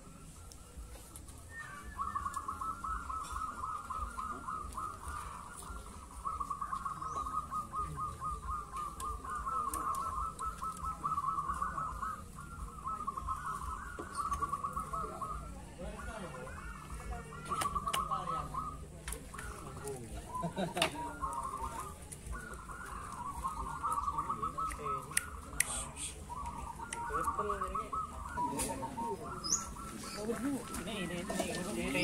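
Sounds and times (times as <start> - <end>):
doves cooing: 0.0 - 32.0.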